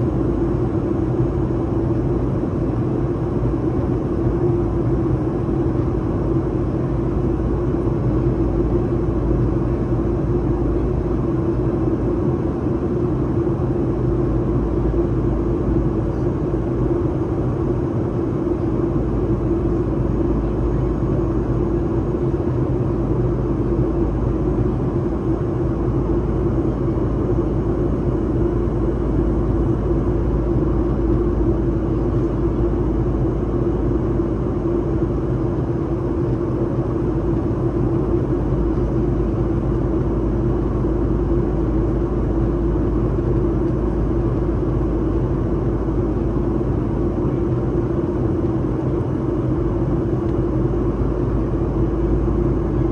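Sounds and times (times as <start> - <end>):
constant low hum: 0.0 - 52.9
jet engines drone: 0.0 - 52.9.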